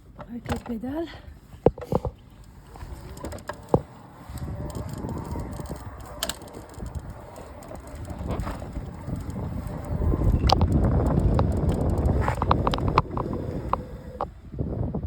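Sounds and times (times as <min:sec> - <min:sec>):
low rumbling noise: 0:01.3 - 0:15.0
bicycle drivetrain clicking: 0:01.4 - 0:14.4.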